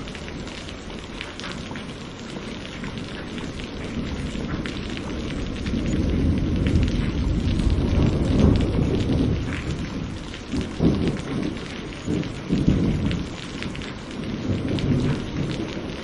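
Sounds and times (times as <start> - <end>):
low rumble of thunder: 0.0 - 16.0
raindrops ticking on a surface: 0.0 - 16.0
steady rain: 0.0 - 16.0.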